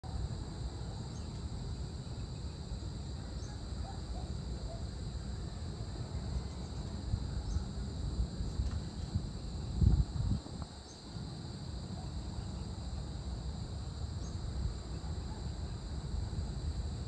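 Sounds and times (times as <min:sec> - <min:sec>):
high-pitched insect drone: 0:00.1 - 0:17.0.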